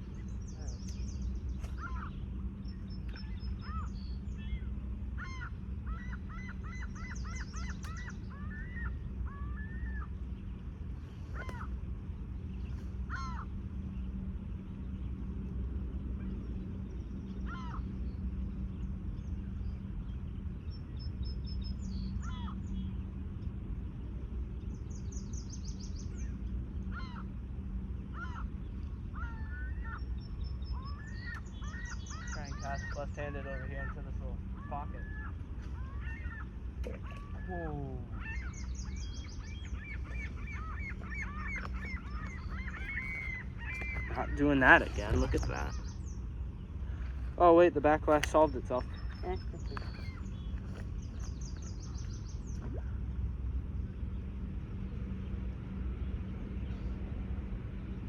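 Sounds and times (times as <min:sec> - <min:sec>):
birds calling: 0:00.0 - 0:58.0
small birds chirping: 0:00.0 - 0:58.0
steady low hum: 0:00.0 - 0:58.0.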